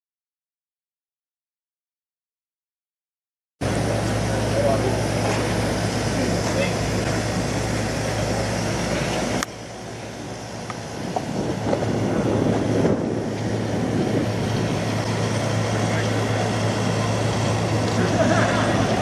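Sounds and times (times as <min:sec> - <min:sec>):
road vehicle engine hum: 0:03.6 - 0:19.0.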